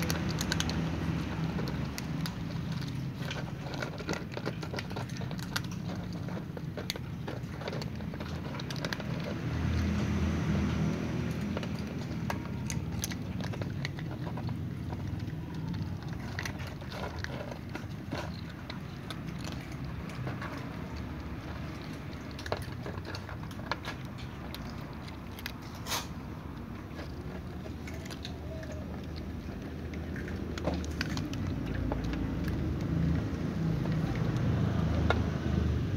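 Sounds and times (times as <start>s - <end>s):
cats crunching dry kibble: 0.0s - 35.9s.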